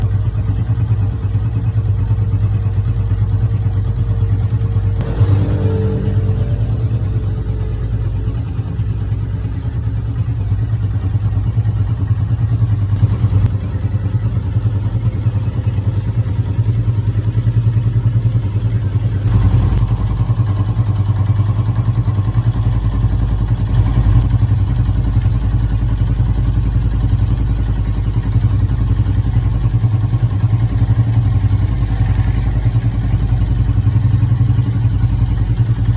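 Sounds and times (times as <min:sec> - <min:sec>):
motorcycle engine clattering: 0:00.0 - 0:35.9.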